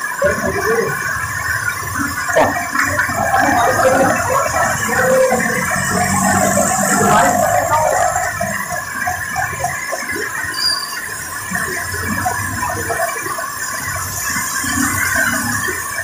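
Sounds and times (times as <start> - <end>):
heavy rain pouring: 0.0 - 16.0
vehicles passing through water: 0.0 - 16.0.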